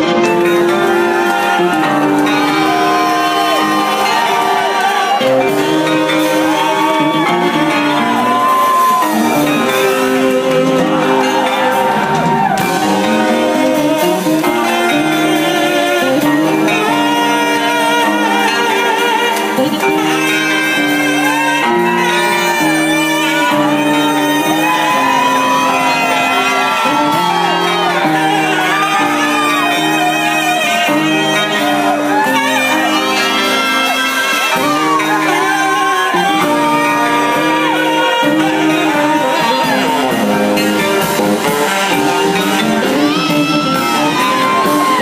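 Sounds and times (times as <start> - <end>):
drums: 0.0 - 45.0
electric guitar: 0.0 - 45.0
live band playing loud: 0.0 - 45.0
saxophone: 0.0 - 45.0.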